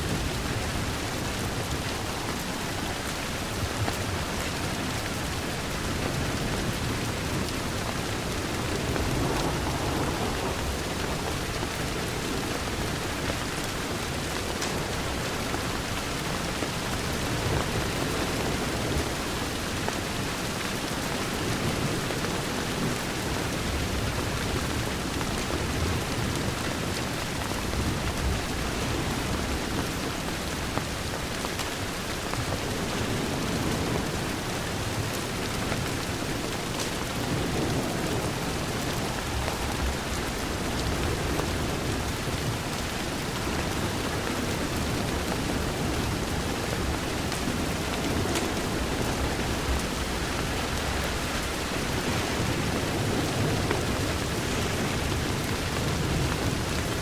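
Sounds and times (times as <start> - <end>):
rain pattering on window: 0.0 - 57.0.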